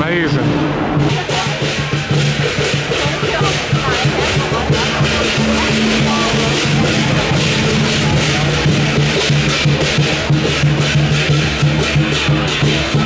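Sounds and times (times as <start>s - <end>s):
big drum beating: 0.0s - 13.0s
cymbals crashing: 0.4s - 13.0s.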